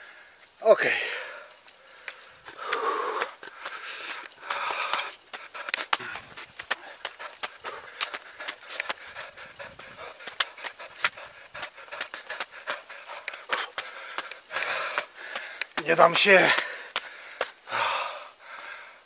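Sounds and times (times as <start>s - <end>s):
man panting: 0.8s - 19.0s
footsteps clicking and rubbing: 1.5s - 17.6s.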